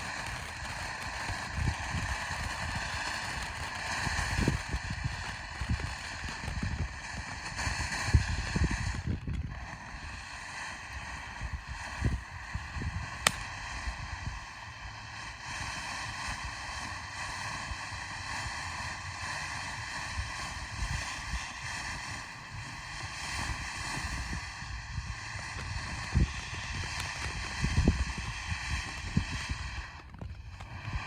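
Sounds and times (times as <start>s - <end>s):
firework fountain hissing: 0.0s - 31.0s
wind gusts on microphone: 0.0s - 31.0s.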